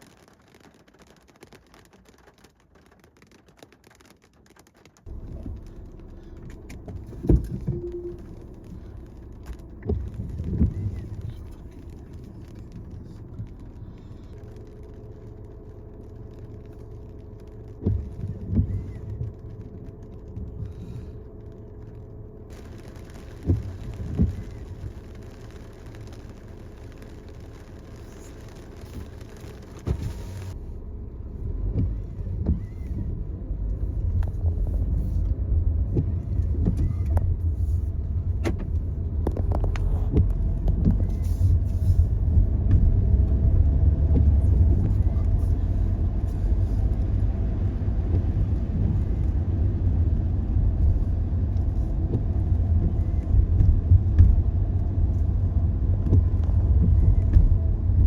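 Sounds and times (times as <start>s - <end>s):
car driving rumble: 0.0s - 58.0s.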